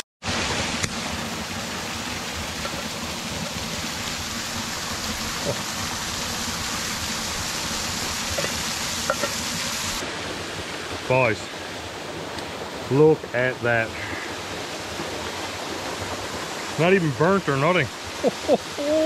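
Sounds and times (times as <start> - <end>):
small waterfall rushing: 0.0 - 19.0.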